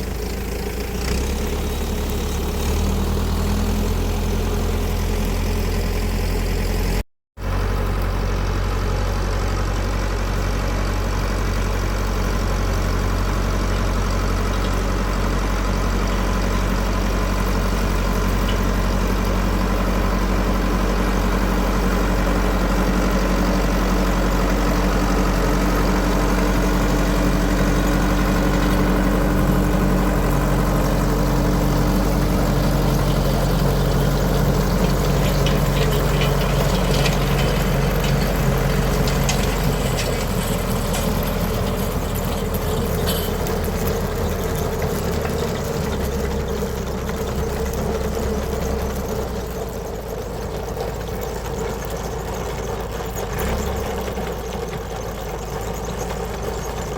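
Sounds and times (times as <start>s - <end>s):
engine running steadily: 0.0s - 56.9s.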